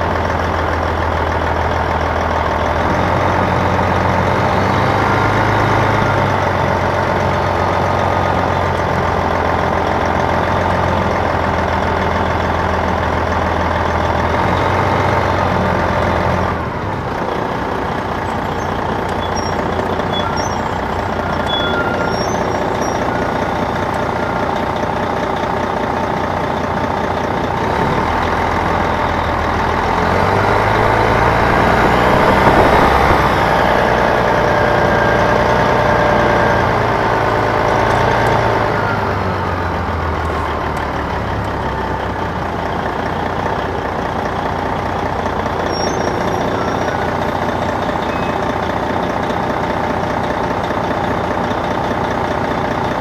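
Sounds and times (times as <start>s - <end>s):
diesel bus engine running: 0.0s - 53.0s.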